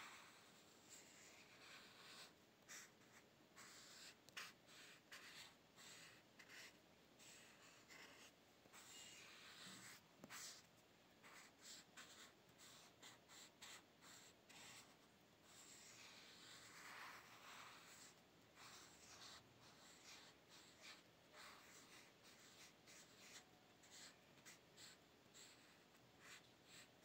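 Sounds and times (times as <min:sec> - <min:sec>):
pencil scratching on paper: 0:00.0 - 0:27.0.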